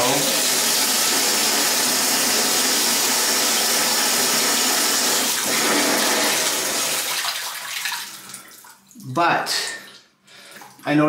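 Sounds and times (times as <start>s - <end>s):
faucet water running into tub: 0.0s - 10.9s.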